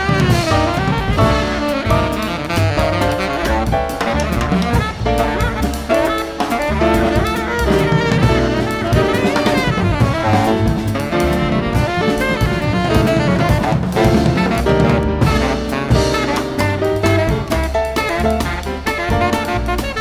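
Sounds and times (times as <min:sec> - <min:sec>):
double bass: 0:00.0 - 0:20.0
drum kit: 0:00.0 - 0:20.0
piano: 0:00.0 - 0:20.0
saxophone melody: 0:00.0 - 0:20.0.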